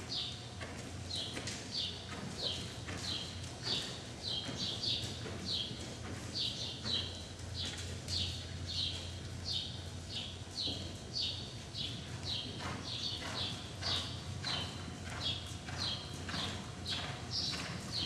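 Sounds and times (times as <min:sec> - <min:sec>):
steady low hum: 0:00.0 - 0:18.0
hoofbeats on sand: 0:00.7 - 0:18.0.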